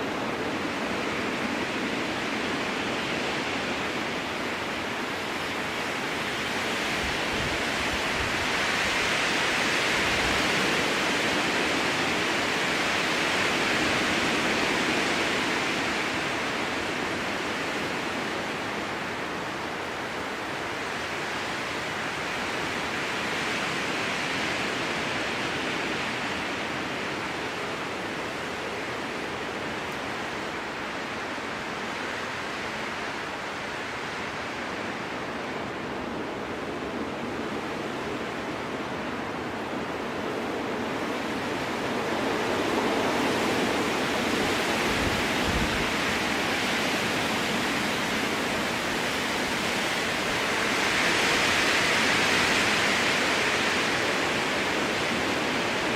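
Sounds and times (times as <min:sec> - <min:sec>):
strong wind rushing through trees: 0:00.0 - 0:55.9.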